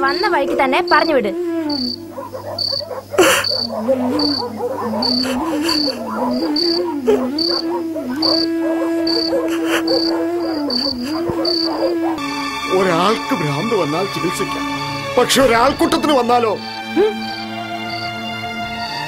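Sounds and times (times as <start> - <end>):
crickets chirping: 0.0 - 15.2, 16.6 - 19.0
low background music: 0.0 - 19.0.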